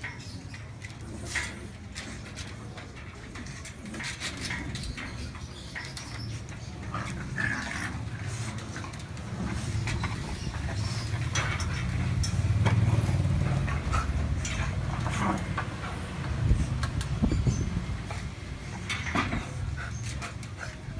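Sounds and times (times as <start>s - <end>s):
paws clicking on cage floor: 0.0s - 20.9s
puppy sounds: 0.0s - 20.9s.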